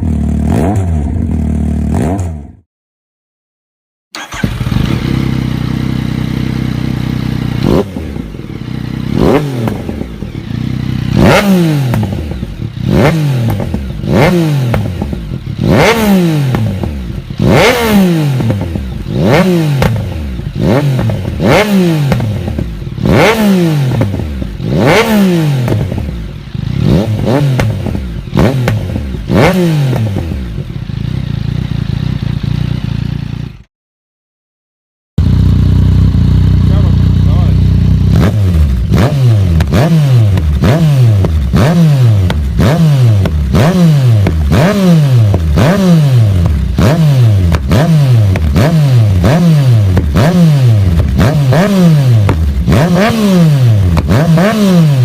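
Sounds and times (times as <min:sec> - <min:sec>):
motorcycle engine revving: 0:00.0 - 0:02.7, 0:04.1 - 0:33.7, 0:35.2 - 0:55.0.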